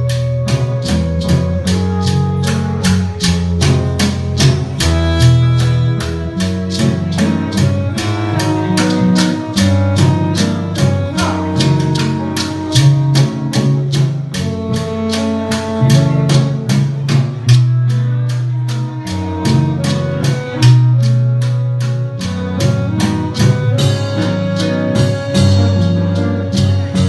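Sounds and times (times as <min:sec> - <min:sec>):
percussion strikes: 0:00.0 - 0:27.0
plucked strings: 0:00.0 - 0:27.0
sustained bass notes: 0:00.0 - 0:27.0.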